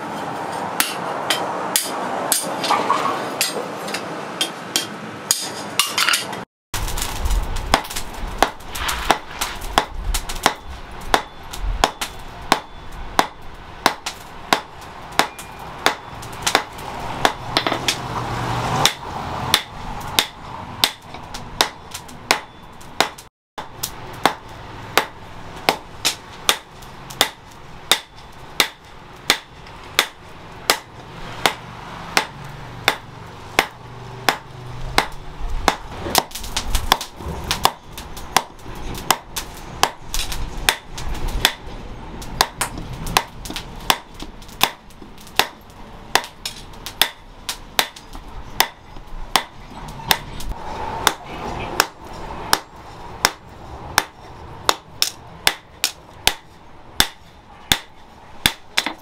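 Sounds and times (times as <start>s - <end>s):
hammer striking hot steel: 0.1s - 2.7s, 3.4s - 18.2s, 18.8s - 59.0s.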